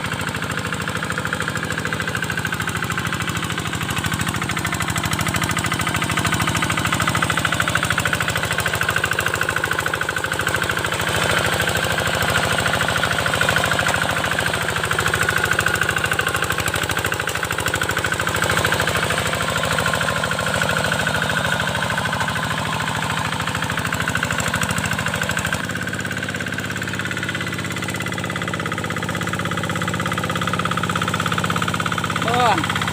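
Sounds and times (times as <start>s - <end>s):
diesel engine chugging: 0.0s - 32.9s.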